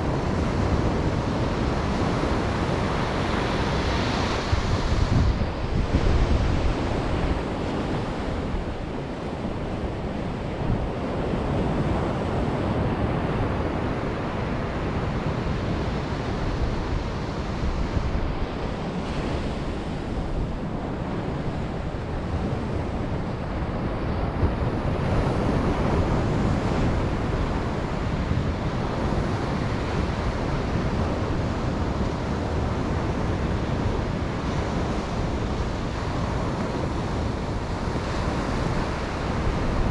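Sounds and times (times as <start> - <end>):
ocean waves breaking on beach: 0.0 - 39.9
wind on microphone: 0.0 - 39.9.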